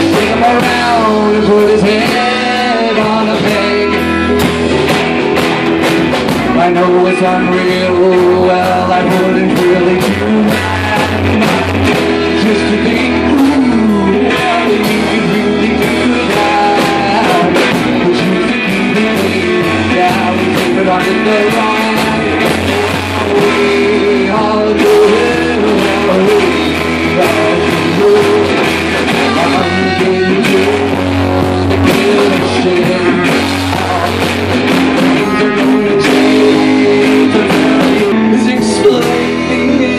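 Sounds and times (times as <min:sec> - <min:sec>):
drums: 0:00.0 - 0:39.9
electric guitar: 0:00.0 - 0:39.9
live rock band playing: 0:00.0 - 0:39.9.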